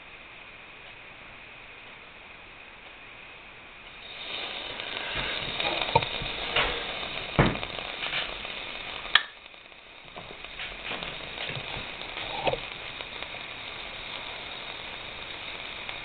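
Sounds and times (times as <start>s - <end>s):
stove sizzling and crackling: 0.0s - 16.0s.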